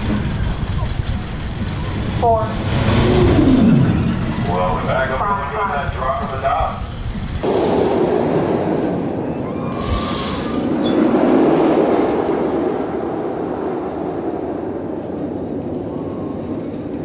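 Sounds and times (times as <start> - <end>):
roller coaster roaring past: 0.0 - 17.0.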